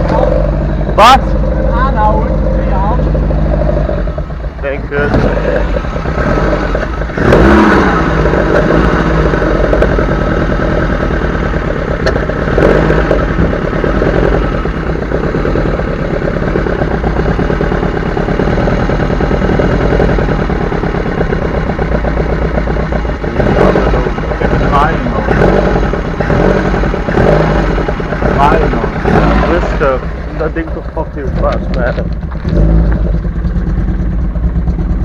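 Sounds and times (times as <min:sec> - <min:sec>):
car engine running and revving: 0:00.0 - 0:35.0.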